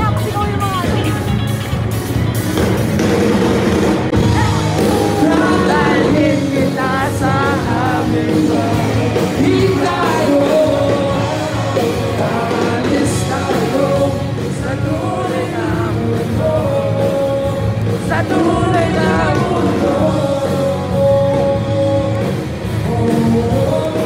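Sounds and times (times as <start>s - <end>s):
live band playing: 0.0s - 24.0s
person singing: 4.2s - 24.0s.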